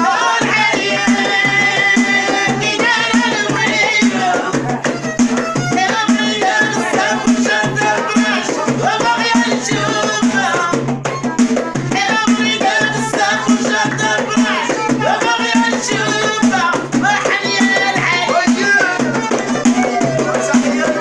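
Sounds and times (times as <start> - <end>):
frame drums and hand percussion: 0.0 - 21.0
woman singing: 0.0 - 21.0.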